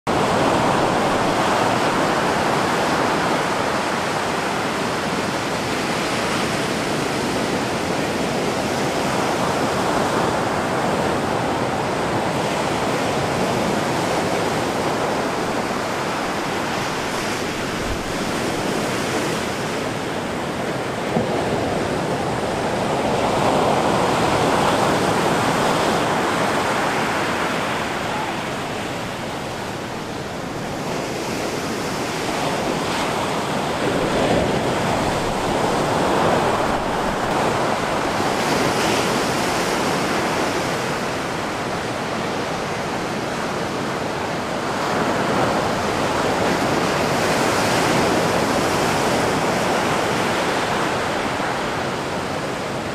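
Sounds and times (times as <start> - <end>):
ocean waves breaking: 0.1 - 52.9.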